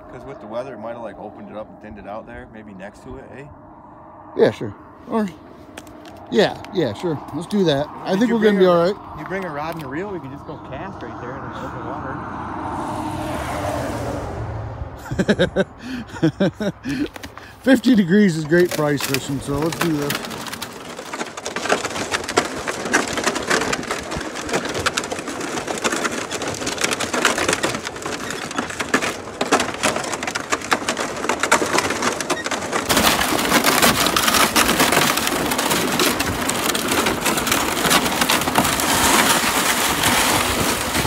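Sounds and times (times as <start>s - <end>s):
sled scraping over ice: 0.0s - 3.5s, 4.4s - 41.0s.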